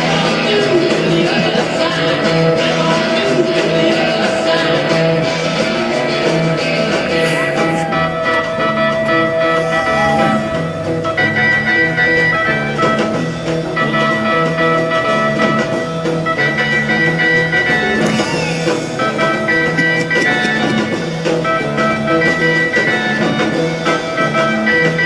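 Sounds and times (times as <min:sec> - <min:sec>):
instrumental guitar music: 0:00.0 - 0:25.0.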